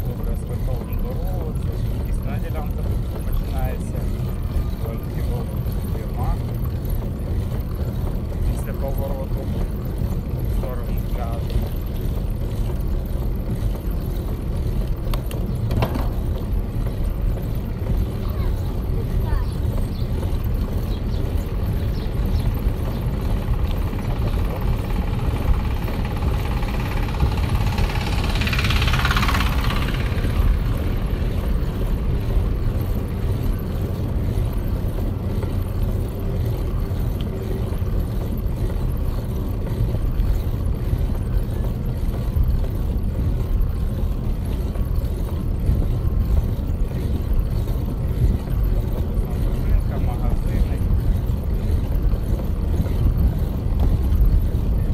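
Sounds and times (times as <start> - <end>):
road rumble: 0.0 - 54.9
wind buffeting microphone: 0.0 - 54.9.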